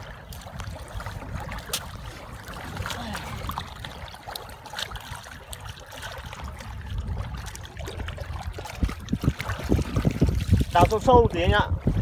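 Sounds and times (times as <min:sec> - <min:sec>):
splashes and squelches in mud: 0:00.0 - 0:12.0.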